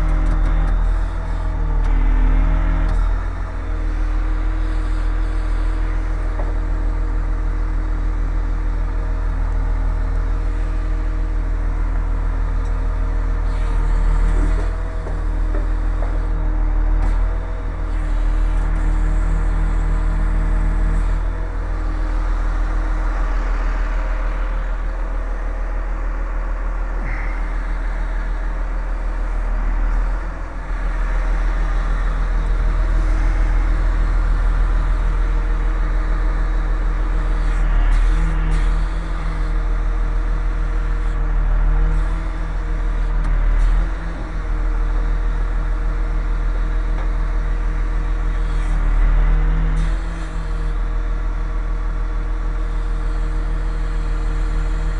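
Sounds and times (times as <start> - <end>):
engine running steadily: 0.0 - 54.9.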